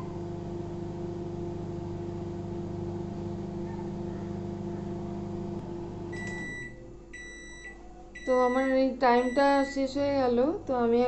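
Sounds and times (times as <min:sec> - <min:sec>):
microwave oven humming: 0:00.0 - 0:09.9.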